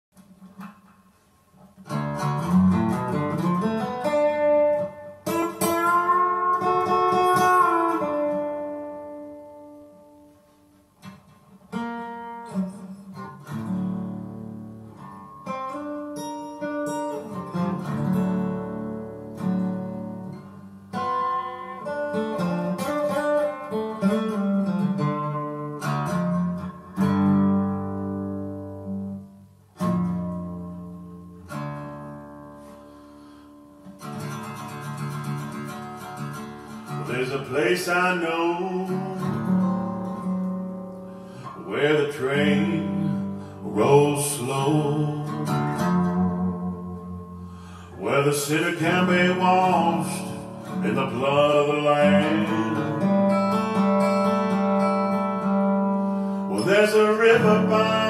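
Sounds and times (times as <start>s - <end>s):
acoustic guitar chords: 0.2s - 58.0s.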